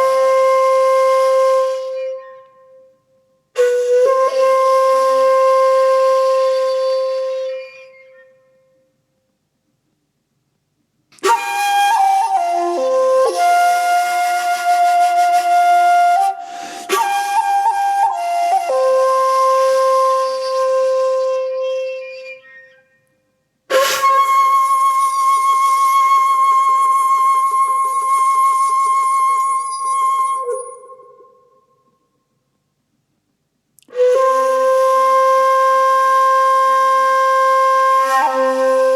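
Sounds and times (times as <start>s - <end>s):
solo flute-like wind instrument: 0.0s - 8.9s, 11.2s - 32.0s, 33.8s - 38.9s.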